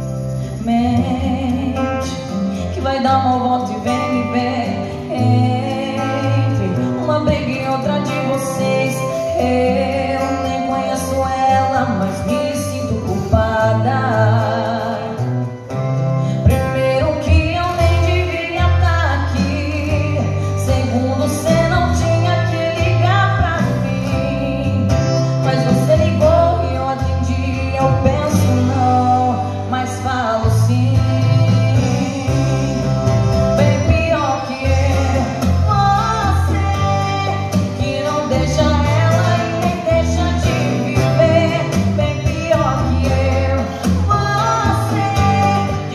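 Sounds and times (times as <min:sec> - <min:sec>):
strummed acoustic guitar: 0:00.0 - 0:45.9
woman singing into microphone: 0:00.0 - 0:45.9.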